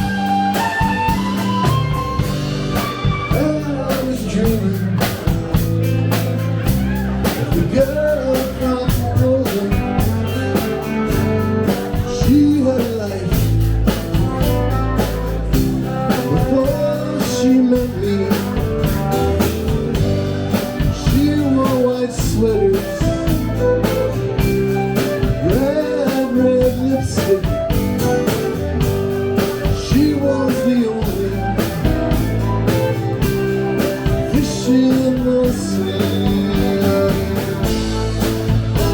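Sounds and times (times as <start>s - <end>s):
drum kit beat: 0.0s - 38.9s
electric guitar: 0.0s - 38.9s
live rock band playing: 0.0s - 38.9s.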